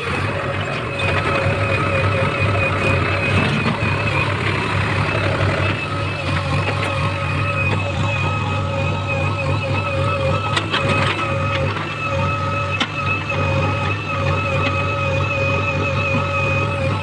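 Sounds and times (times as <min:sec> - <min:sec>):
diesel engine rumbling: 0:00.0 - 0:17.0
high machine whine: 0:00.0 - 0:17.0.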